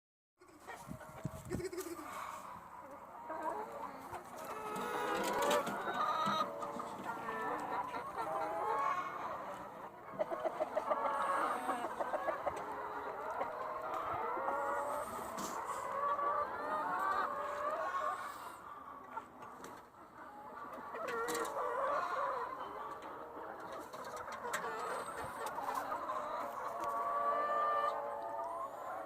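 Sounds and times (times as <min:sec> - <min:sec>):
chickens clucking: 0:00.4 - 0:29.0.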